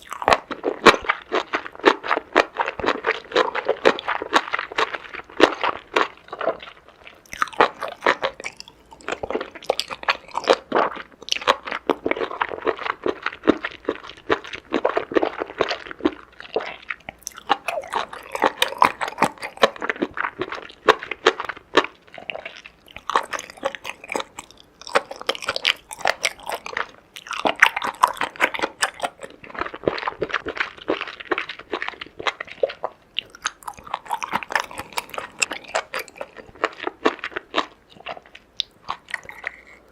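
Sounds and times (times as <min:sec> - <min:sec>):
chewing and crunching: 0:00.0 - 0:39.9.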